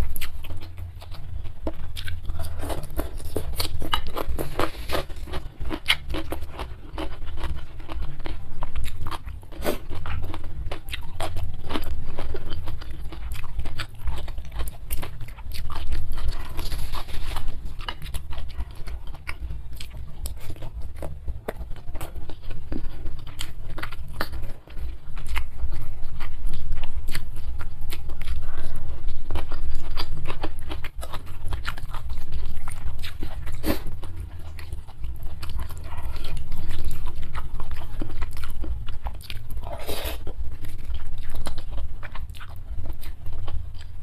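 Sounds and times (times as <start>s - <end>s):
close chewing and crunching: 0.0s - 44.0s
steady low hum: 0.0s - 44.0s.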